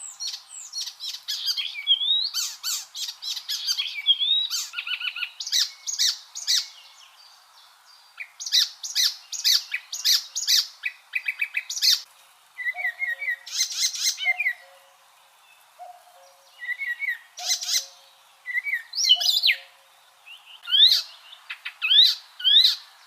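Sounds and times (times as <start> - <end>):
warbler singing: 0.0 - 23.0.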